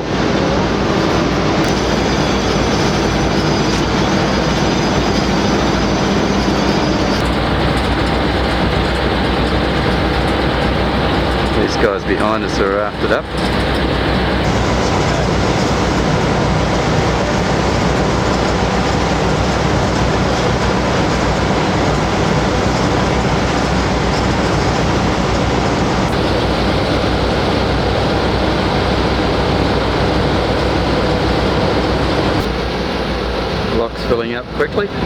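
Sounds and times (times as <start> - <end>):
water rushing into lock: 1.6 - 35.0.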